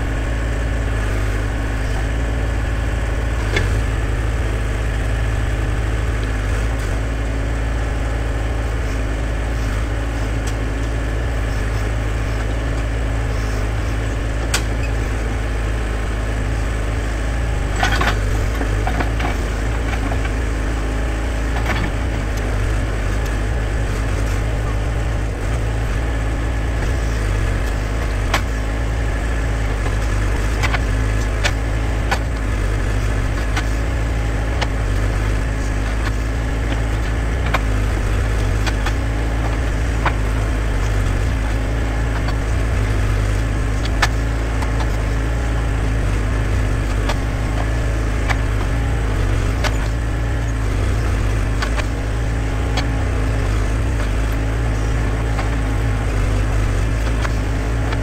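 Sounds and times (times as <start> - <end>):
backhoe engine running: 0.0 - 58.0.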